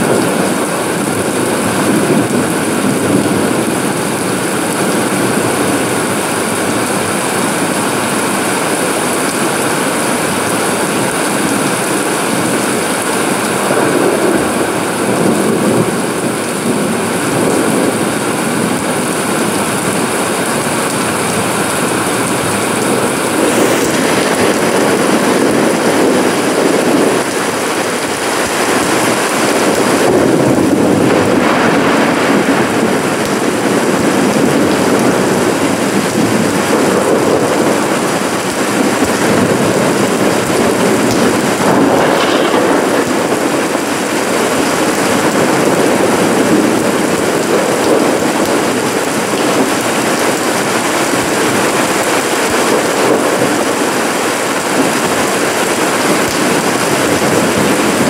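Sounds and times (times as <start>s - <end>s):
rain on paving: 0.0s - 58.0s.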